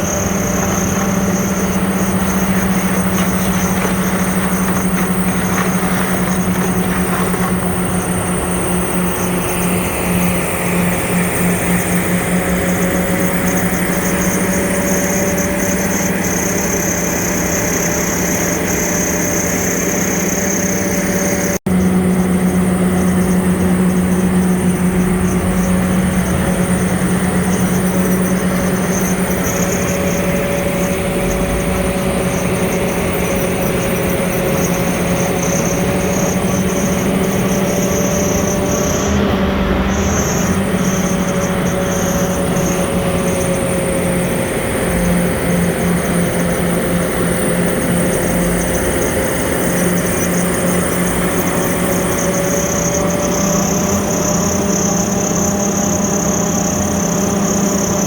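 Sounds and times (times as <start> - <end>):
large engine droning: 0.0 - 58.0.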